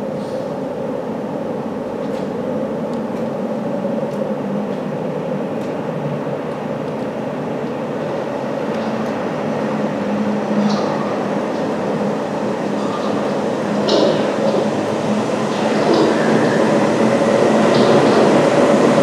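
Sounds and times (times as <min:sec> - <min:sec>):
locomotives rumbling in tunnel: 0:00.0 - 0:19.0.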